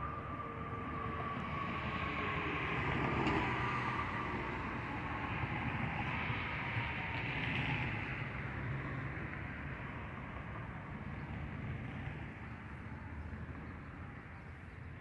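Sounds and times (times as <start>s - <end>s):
passing cars and trucks hum: 0.0s - 15.0s.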